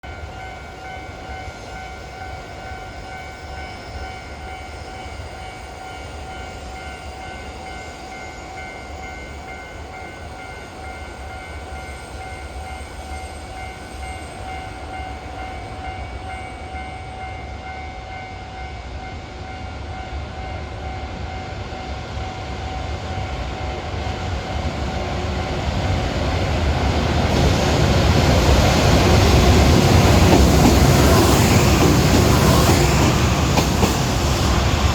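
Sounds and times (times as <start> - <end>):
freight train rumble: 0.0 - 34.9
level-crossing warning bell: 0.0 - 34.9.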